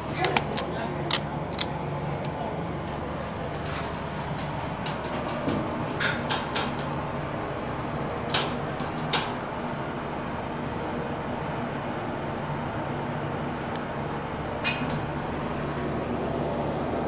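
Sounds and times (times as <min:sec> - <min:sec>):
elevator car hum: 0:00.0 - 0:17.0.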